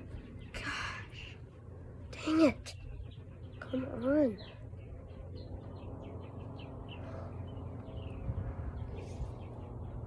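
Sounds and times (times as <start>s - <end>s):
birds chirping: 0.0s - 10.0s
steady low rumble: 0.0s - 10.0s.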